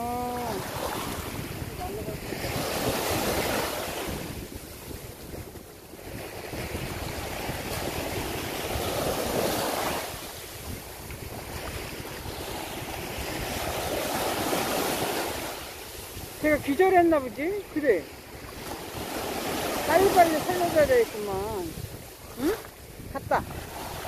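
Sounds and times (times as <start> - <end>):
waves washing up a beach: 0.0 - 24.0
wind rumbling on microphone: 0.0 - 24.0.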